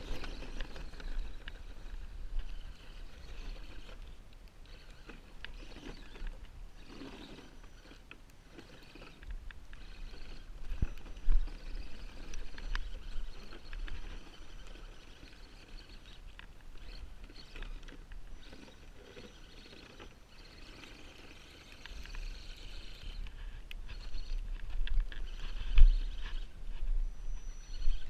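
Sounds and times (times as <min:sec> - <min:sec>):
crackling ticks: 0:00.2 - 0:07.0, 0:07.6 - 0:18.6, 0:20.6 - 0:26.2.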